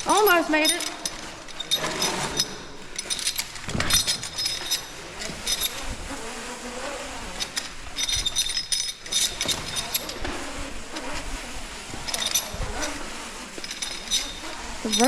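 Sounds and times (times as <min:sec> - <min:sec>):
metal gear clicking and buzzing: 0:00.0 - 0:15.0.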